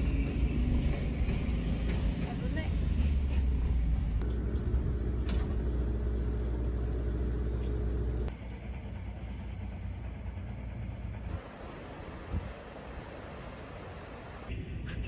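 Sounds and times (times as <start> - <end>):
train rumbling across steel bridge: 0.0 - 6.7, 8.0 - 14.5.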